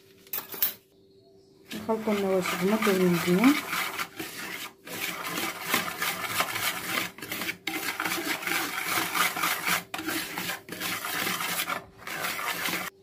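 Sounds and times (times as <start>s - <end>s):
whisk scraping in bowl: 1.7s - 13.0s.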